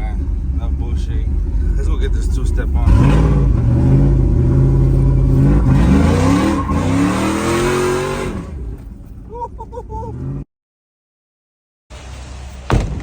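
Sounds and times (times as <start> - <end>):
truck engine accelerating: 0.0 - 10.5.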